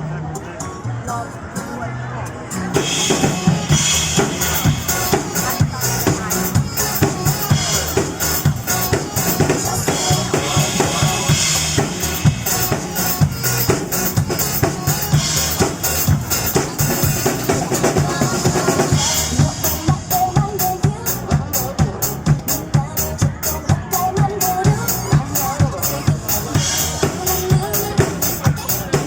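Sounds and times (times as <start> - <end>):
pop backing track: 0.0 - 29.0
drum kit playing: 2.4 - 29.0.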